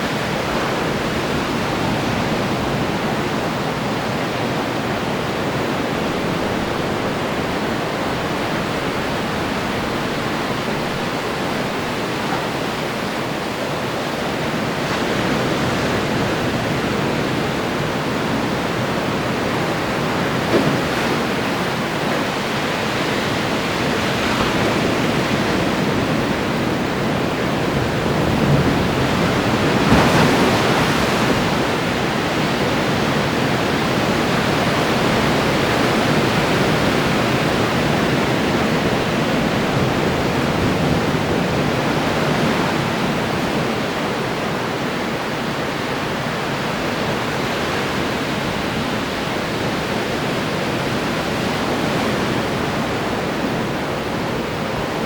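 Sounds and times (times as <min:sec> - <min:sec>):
ocean surf breaking on shore: 0:00.0 - 0:55.0.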